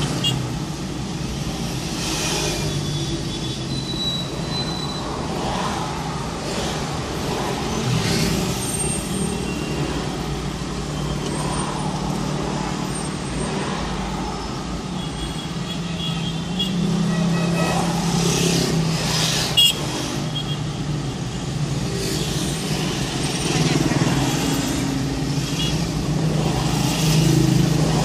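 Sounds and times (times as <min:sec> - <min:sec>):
low engine hum of traffic: 0:00.0 - 0:28.0
vehicles passing close by: 0:00.0 - 0:28.0.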